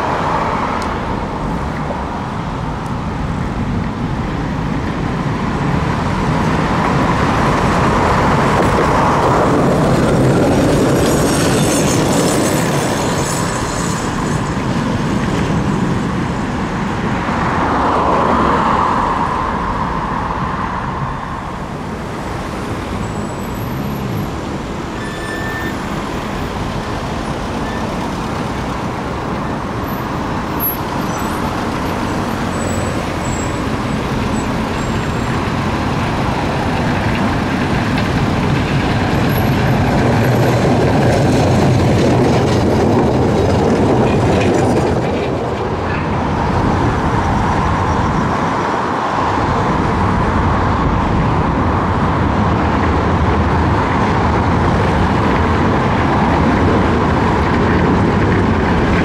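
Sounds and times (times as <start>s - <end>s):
road vehicles passing: 0.0s - 59.0s
steady traffic hum: 0.0s - 59.0s
trams passing: 0.0s - 59.0s.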